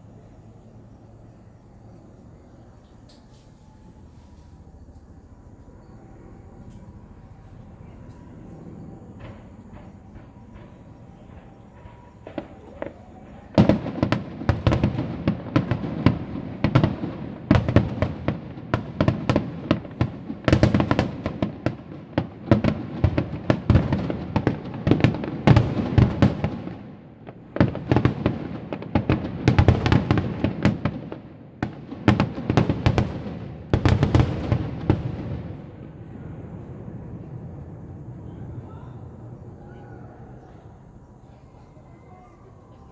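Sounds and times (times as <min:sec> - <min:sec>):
fireworks bangs and crackles: 0:06.6 - 0:41.3.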